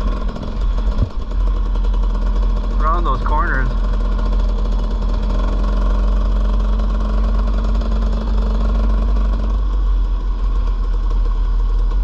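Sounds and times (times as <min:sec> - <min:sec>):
dirt bike engine running: 0:00.0 - 0:12.0
heavy low rumble: 0:00.0 - 0:12.0.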